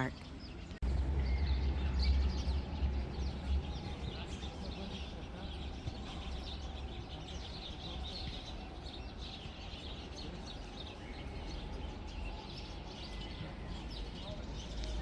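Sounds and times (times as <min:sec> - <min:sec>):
low outdoor rumble: 0:00.0 - 0:15.0
small birds chirping and twittering: 0:00.0 - 0:15.0.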